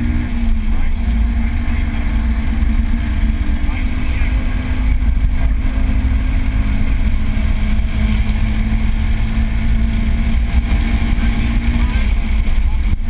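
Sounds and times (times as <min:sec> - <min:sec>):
car engine running under load: 0:00.0 - 0:13.0
low road rumble: 0:00.0 - 0:13.0.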